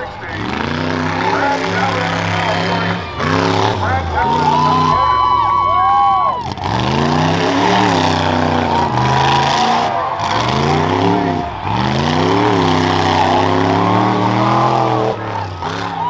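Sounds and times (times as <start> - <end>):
truck engine under hard throttle: 0.0 - 16.0.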